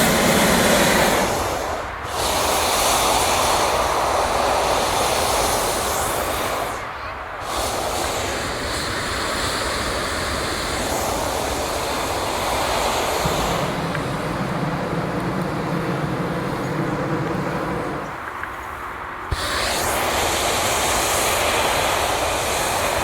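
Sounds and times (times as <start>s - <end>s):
propane burner roaring: 0.0s - 23.0s.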